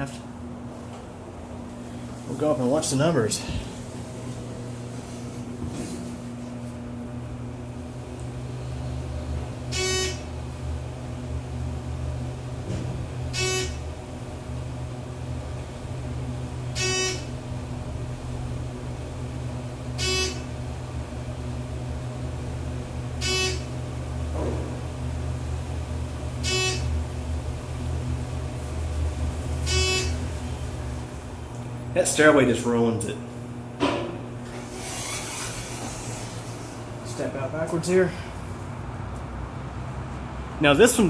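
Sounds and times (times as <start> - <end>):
elevator humming: 0.0 - 41.0.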